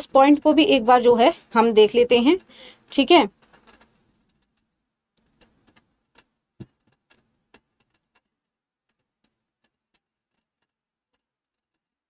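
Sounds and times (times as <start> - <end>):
faint clicks and taps: 1.9 - 11.8.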